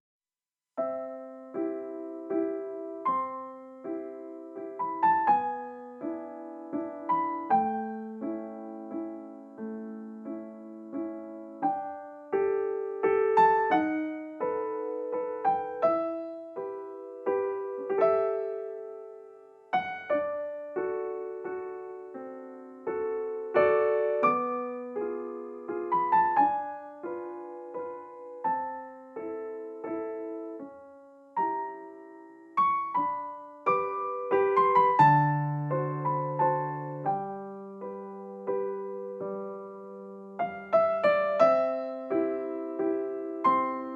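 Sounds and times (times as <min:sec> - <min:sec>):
gentle piano music: 0:00.8 - 0:43.9.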